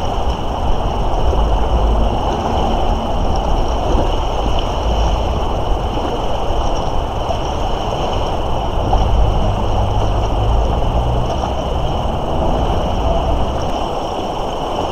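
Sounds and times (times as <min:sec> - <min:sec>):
heavy low rumble: 0:00.0 - 0:14.9
river rushing: 0:00.0 - 0:14.9.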